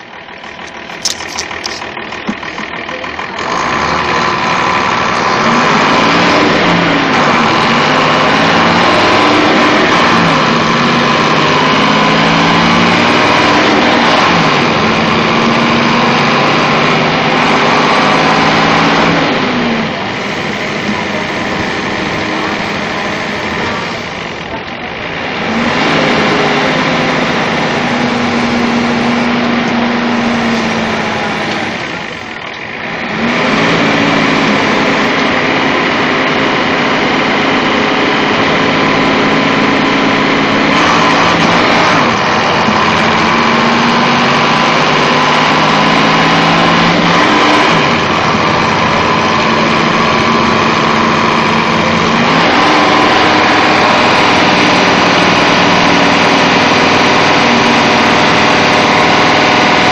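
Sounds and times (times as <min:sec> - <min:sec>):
bus diesel engine running: 0:00.0 - 0:59.9
high-pitched whine: 0:03.6 - 0:59.9.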